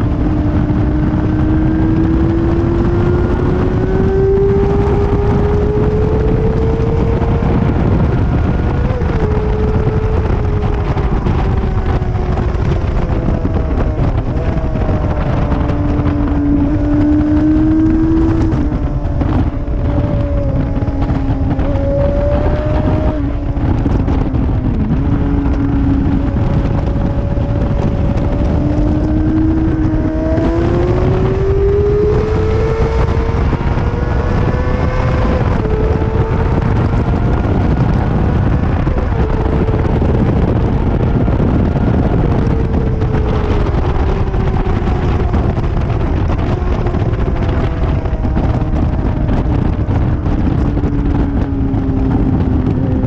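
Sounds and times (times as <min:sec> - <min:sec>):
motorcycle engine revving: 0:00.0 - 0:53.0
wind rushing on microphone: 0:00.0 - 0:53.0.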